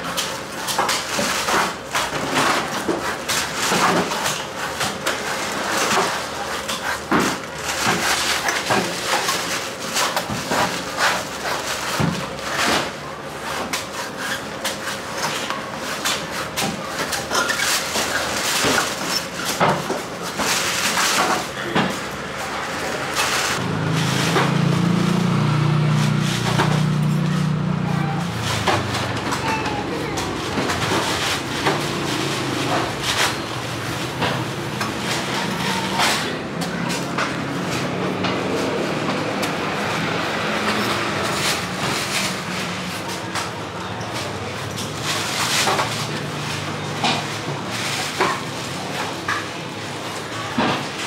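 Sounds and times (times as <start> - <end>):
market chatter: 0.0 - 51.0.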